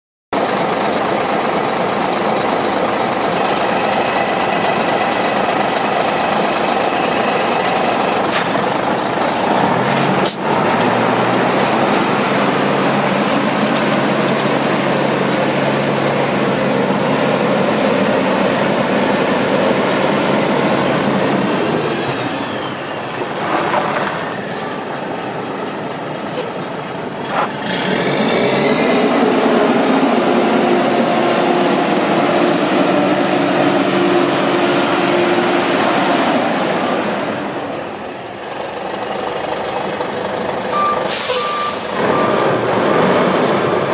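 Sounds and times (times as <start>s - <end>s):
diesel truck engine running: 0.4s - 43.9s.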